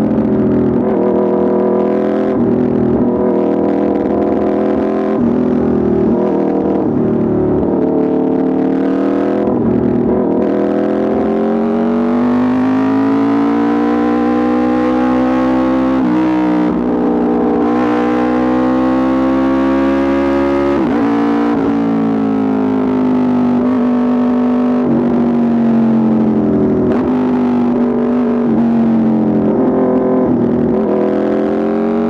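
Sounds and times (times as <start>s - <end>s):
motorcycle engine running hard: 0.0s - 32.0s.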